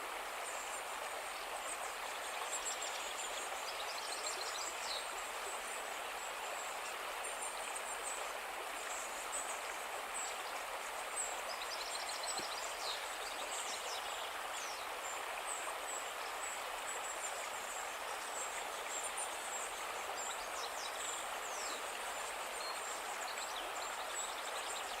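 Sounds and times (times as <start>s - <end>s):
river flowing: 0.0s - 25.0s.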